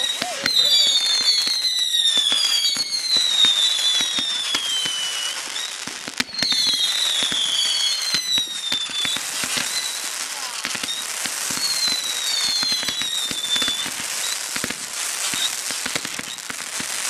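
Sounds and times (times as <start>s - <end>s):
fireworks crackling and popping: 0.0s - 17.0s
fireworks whistling: 0.0s - 17.0s
sharp firework crack: 0.0s - 17.0s.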